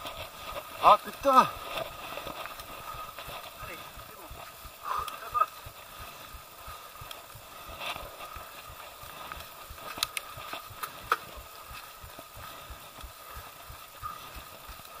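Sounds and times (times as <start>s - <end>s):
bike rattling: 0.0s - 15.0s
bike tyre noise on dirt: 0.0s - 15.0s.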